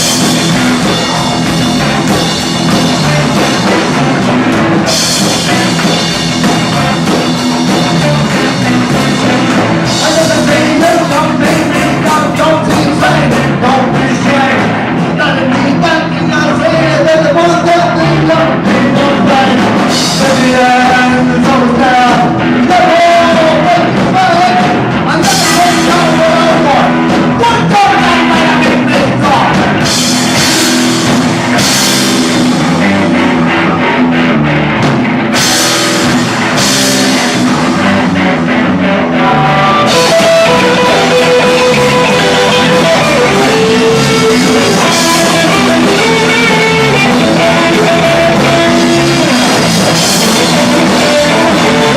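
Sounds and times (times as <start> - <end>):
punk rock band playing: 0.0 - 51.9.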